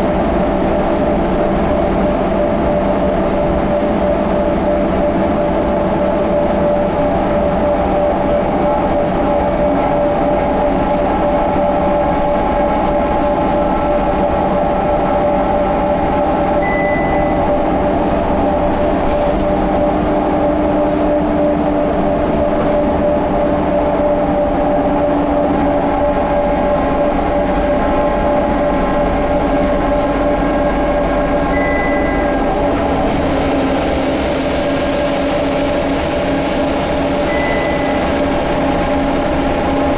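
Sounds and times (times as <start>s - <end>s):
bus gear whine: 0.0s - 39.9s.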